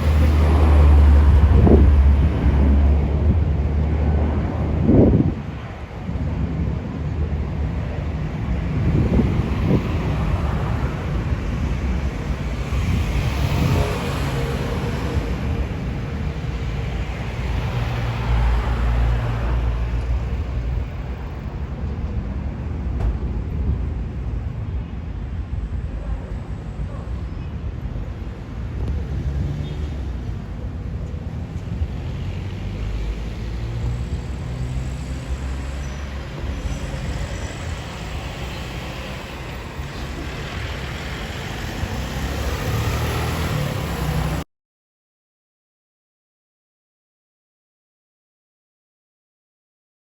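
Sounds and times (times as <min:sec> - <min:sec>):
jet engines rumbling: 0:00.0 - 0:44.4.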